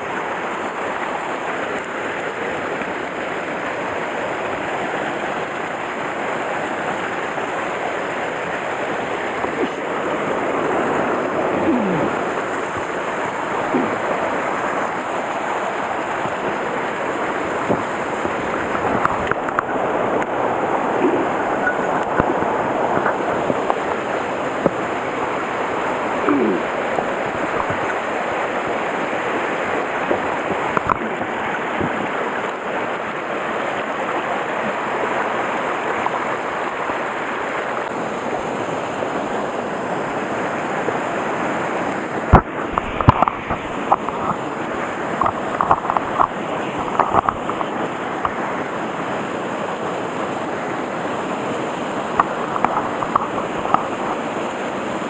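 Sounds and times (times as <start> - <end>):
stream rushing over rocks: 0.0 - 55.0
water gurgles: 0.0 - 55.0.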